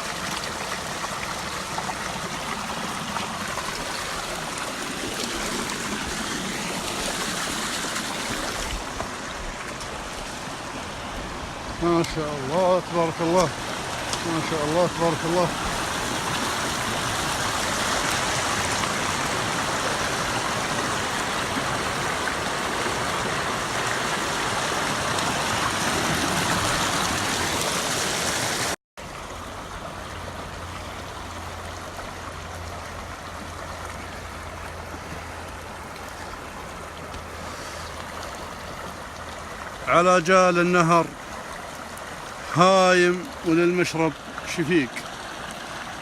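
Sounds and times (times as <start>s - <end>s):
stream water splashing: 0.0s - 46.0s.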